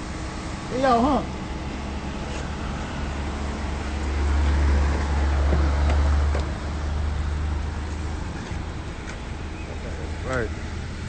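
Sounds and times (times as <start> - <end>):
street traffic with deep rumble: 0.0 - 11.0.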